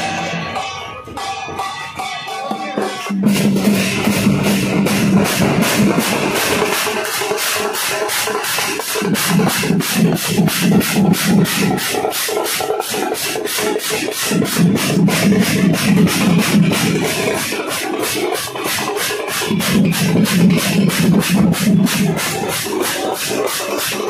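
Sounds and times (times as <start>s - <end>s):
bass drums pulsing: 0.0s - 6.6s, 8.9s - 23.0s
hand cymbals clashing: 0.0s - 24.0s.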